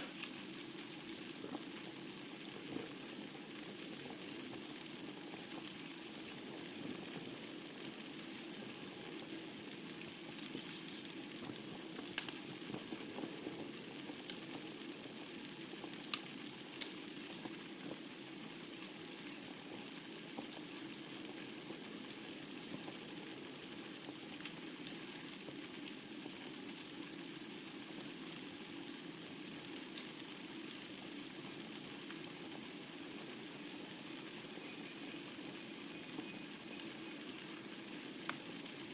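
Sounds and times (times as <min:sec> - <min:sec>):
fire crackling and popping: 0:00.0 - 0:38.9
fire hissing: 0:00.0 - 0:38.9.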